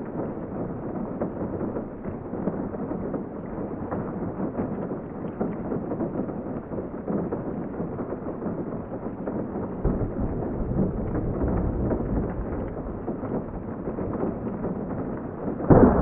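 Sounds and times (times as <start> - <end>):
steady rain patter: 0.0 - 16.0.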